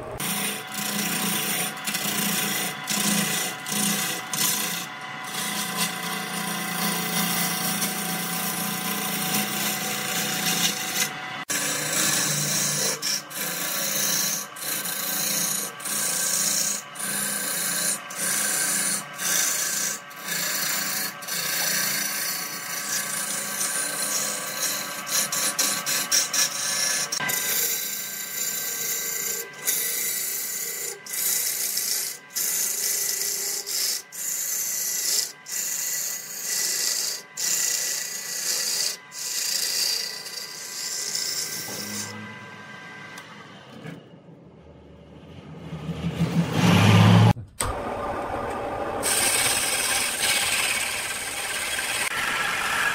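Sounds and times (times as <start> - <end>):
gouge scraping wood on lathe: 0.0 - 44.0, 49.0 - 52.9.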